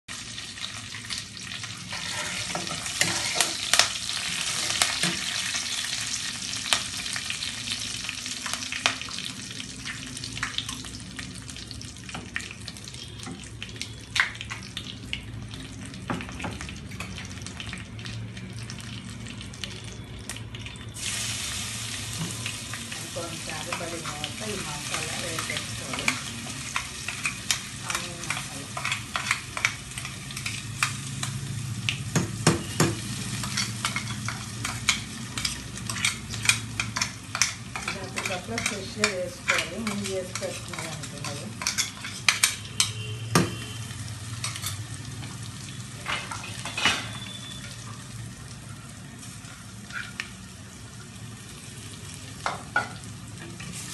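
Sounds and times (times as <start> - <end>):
oil sizzling in a pan: 0.1 - 53.9.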